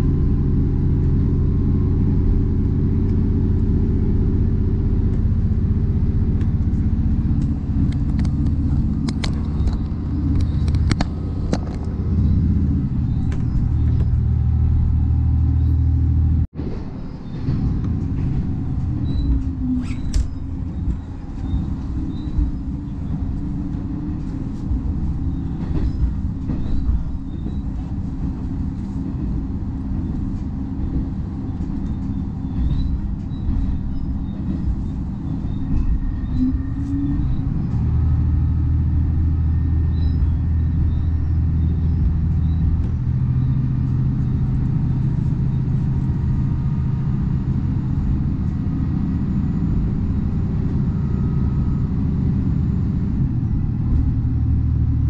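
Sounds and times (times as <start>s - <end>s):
diesel railcar engine: 0.0s - 55.0s
train wheels on rail: 0.0s - 55.0s.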